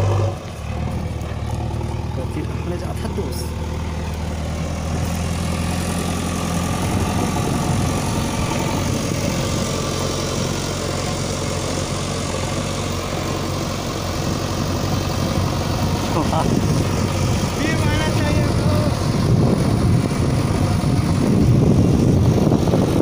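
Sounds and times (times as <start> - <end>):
diesel engine driving past: 0.0 - 23.0.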